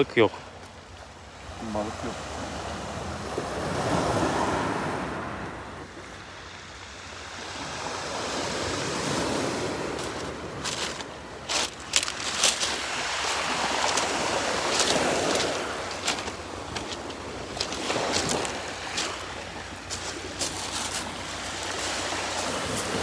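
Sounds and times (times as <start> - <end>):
sea waves washing ashore: 0.0 - 23.0.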